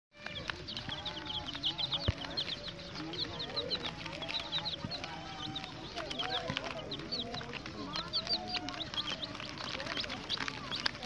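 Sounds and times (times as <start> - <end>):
chicks peeping: 0.2 - 11.0.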